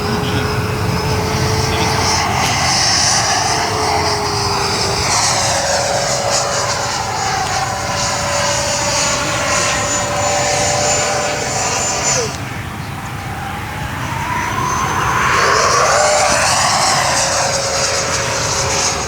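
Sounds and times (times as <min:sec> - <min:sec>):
model jet electric fan whine: 0:00.0 - 0:19.0.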